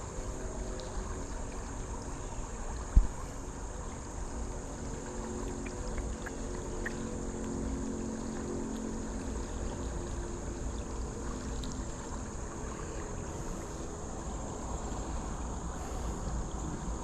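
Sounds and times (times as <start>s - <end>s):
creek water running: 0.0s - 17.0s
insects chirring: 0.0s - 17.0s.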